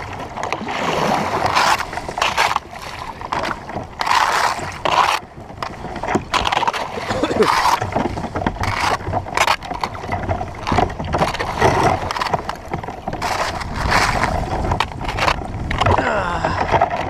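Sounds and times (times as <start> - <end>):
kayak paddle splashing: 0.0 - 17.0
water rushing along hull: 0.0 - 17.0.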